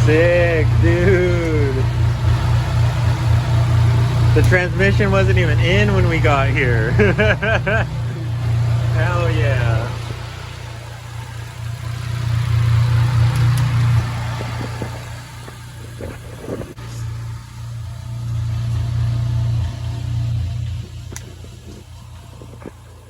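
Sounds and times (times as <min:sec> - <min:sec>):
turbocharged car engine running: 0:00.0 - 0:23.0.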